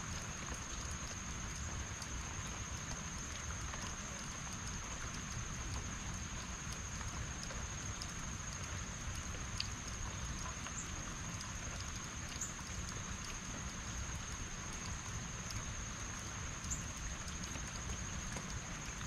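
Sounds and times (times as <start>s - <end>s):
faint drip ticks: 0.0s - 19.0s
rain falling: 0.0s - 19.0s.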